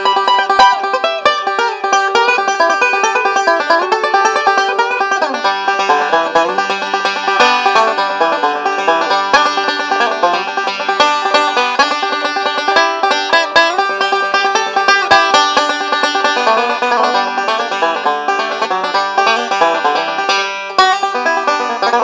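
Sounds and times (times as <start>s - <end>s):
banjo picking: 0.0s - 22.0s.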